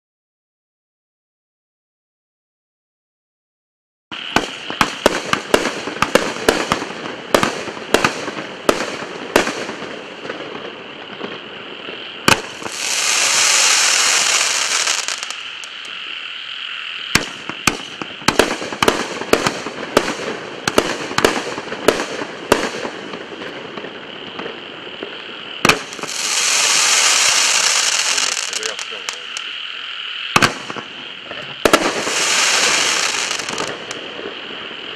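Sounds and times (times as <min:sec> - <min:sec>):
fireworks crackling: 0:04.1 - 0:34.9
fireworks launch reports and bursts: 0:04.1 - 0:34.9.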